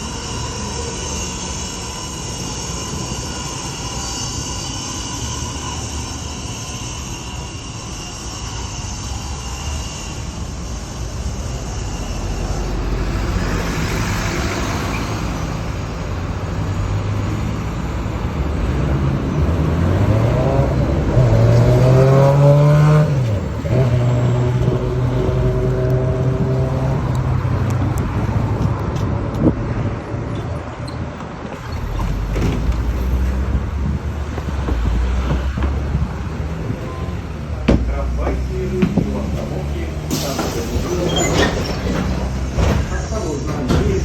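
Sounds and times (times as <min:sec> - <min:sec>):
traction motors whining: 0:00.0 - 0:29.0, 0:30.4 - 0:44.0
tram steady high tones: 0:00.0 - 0:29.0, 0:30.0 - 0:44.0.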